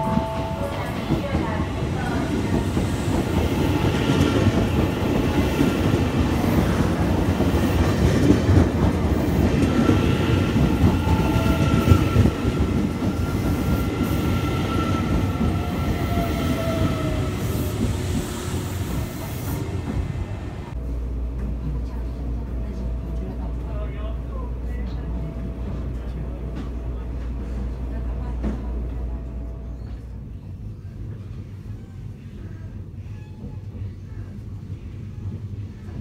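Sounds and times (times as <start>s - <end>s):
high train whine: 0.0s - 36.0s
train wheels rumbling on rail: 0.0s - 36.0s.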